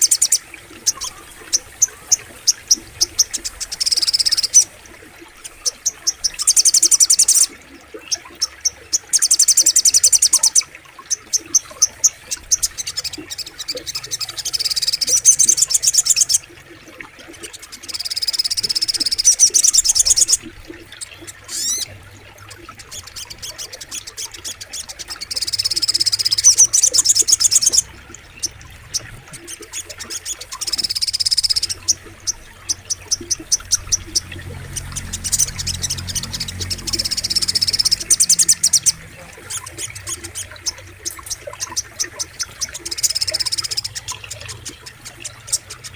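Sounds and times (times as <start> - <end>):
bird trilling song: 0.0 - 4.7, 5.3 - 16.5, 17.7 - 21.9, 22.7 - 45.9.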